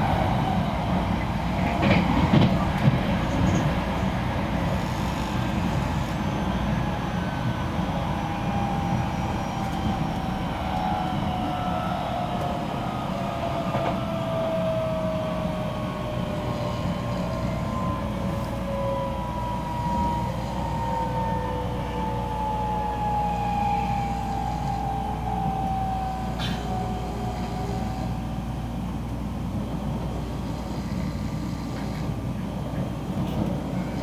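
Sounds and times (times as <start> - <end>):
train motor whine: 0.0 - 32.3
train wheels rumbling on rails: 0.0 - 34.0.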